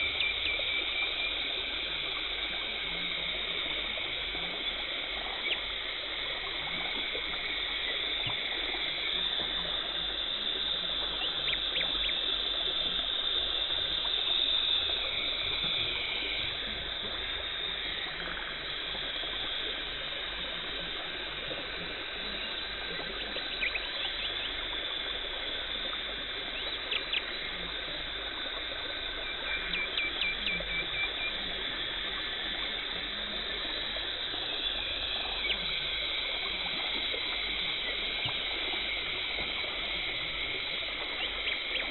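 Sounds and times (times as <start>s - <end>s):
faint high whine: 0.0s - 41.9s.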